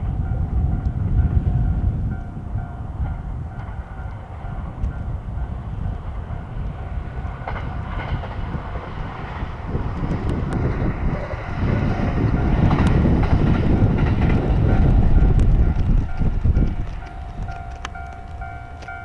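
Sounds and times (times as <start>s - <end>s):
crossing warning bell ringing: 0.0s - 7.4s, 10.2s - 19.0s
train rumbling over crossing: 0.0s - 19.0s.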